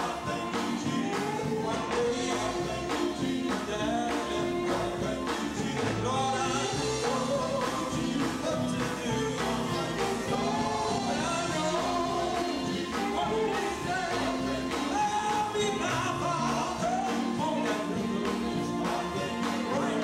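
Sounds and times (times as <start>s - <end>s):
drums: 0.0s - 20.0s
electric guitars: 0.0s - 20.0s
men singing into microphones: 0.0s - 20.0s.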